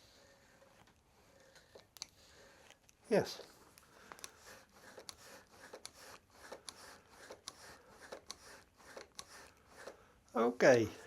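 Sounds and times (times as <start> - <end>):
hands rubbing metal parts: 0.0 - 11.0.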